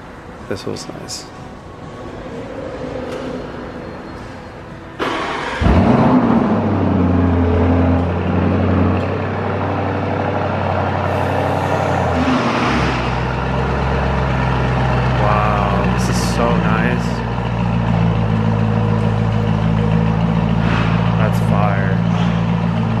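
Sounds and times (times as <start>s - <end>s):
car engine starting and idling: 1.4s - 23.0s.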